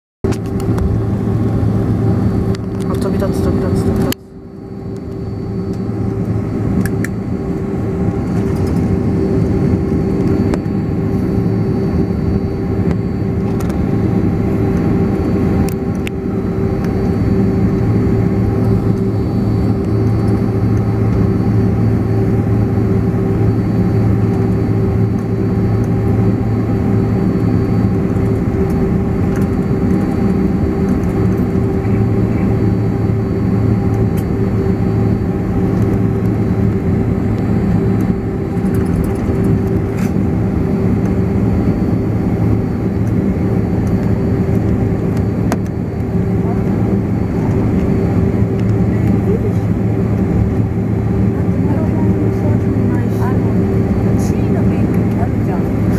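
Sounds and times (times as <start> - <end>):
jet engines humming: 0.2 - 55.9.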